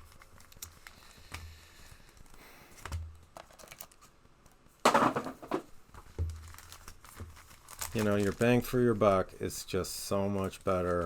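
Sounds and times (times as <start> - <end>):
foil wrapper crinkling: 0.0 - 4.2, 5.1 - 11.0.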